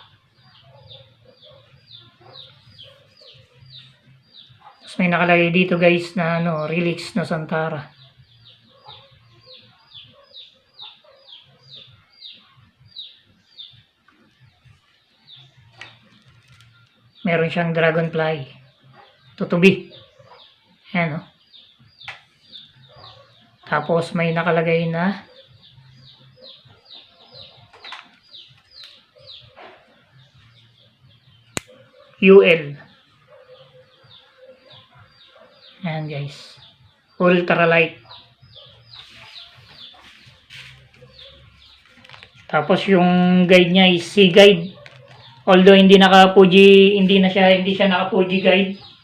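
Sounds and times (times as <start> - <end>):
bird chirping: 0.0 - 49.0.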